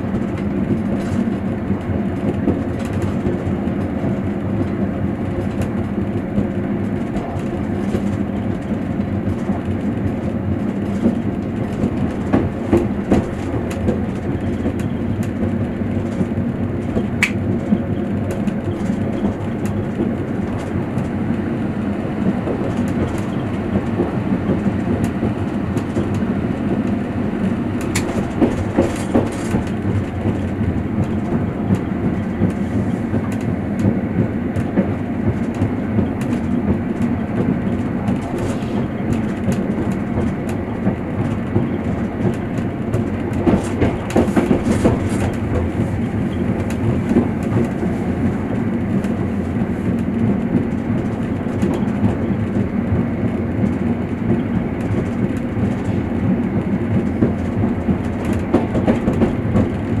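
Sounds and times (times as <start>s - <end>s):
clickety-clack over rail joints: 0.0s - 60.0s
train wheels rumbling on rails: 0.0s - 60.0s.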